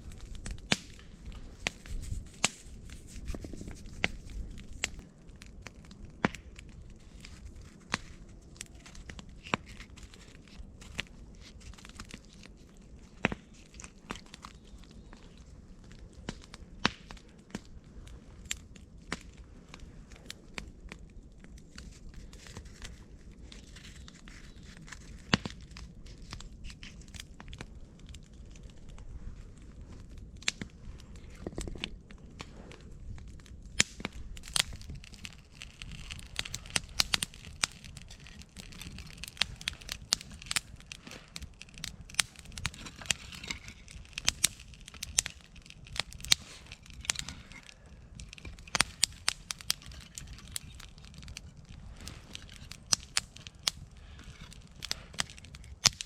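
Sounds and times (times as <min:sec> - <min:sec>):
campfire crackling: 0:00.0 - 0:56.0
fire pops and snaps: 0:00.0 - 0:56.0
low rumble of flames: 0:00.0 - 0:56.0.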